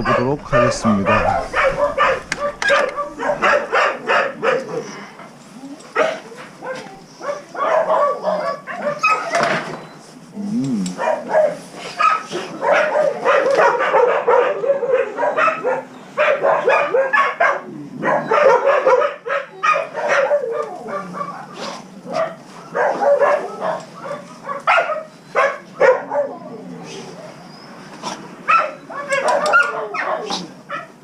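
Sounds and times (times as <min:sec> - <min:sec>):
dogs barking and yipping: 0:00.0 - 0:09.8, 0:11.0 - 0:31.0.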